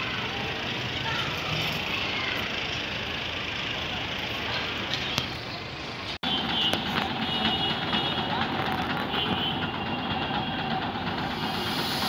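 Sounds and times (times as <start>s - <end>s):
city traffic hiss and rumble: 0.0s - 12.0s.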